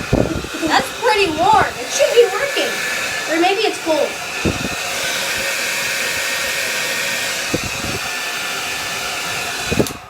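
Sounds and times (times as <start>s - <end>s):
hair dryer blowing: 0.0s - 10.0s.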